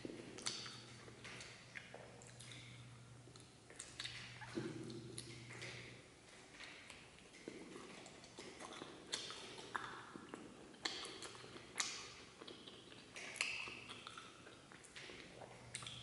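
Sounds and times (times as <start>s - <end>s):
person chewing with lip smacks: 0.0s - 16.0s.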